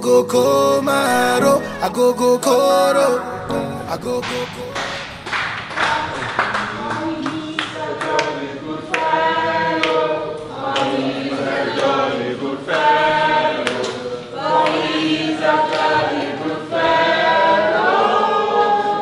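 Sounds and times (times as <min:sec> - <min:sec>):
group of voices singing: 0:00.0 - 0:19.0.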